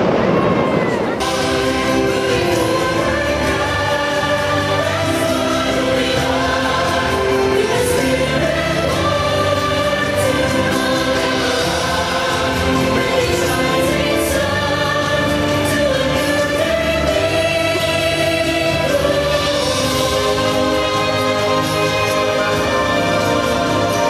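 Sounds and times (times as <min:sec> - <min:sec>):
choir singing long held notes: 0:00.0 - 0:24.0
instrumental backing music: 0:01.2 - 0:24.0.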